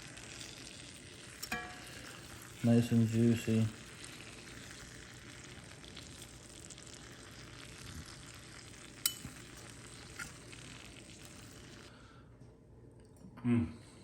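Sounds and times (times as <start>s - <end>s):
fat sizzling in a pan: 0.0s - 12.0s.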